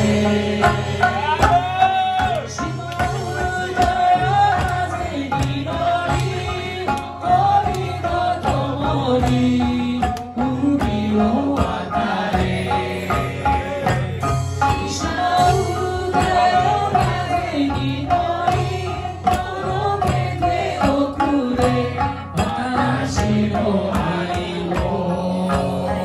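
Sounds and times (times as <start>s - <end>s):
plucked lute: 0.0s - 26.0s
taiko drums: 0.0s - 26.0s.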